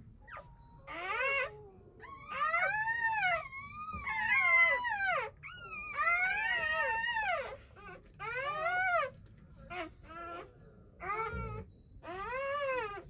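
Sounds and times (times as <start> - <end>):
puppies crying: 0.0 - 13.0.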